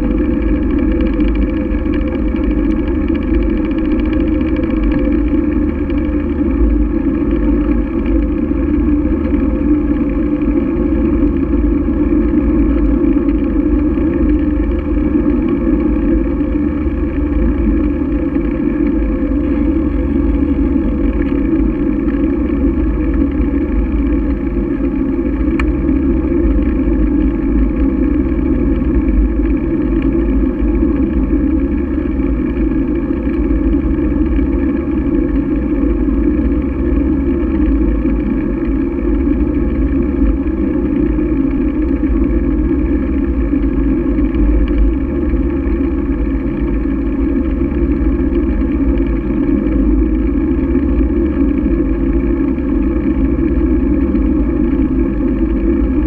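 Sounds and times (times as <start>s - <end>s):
wind and road noise: 0.0s - 54.7s.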